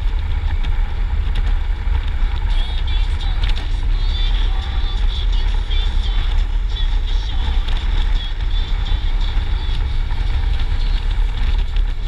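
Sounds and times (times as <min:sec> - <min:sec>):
motorcycle running on road: 0:00.0 - 0:12.0
wind buffeting microphone: 0:00.0 - 0:12.0.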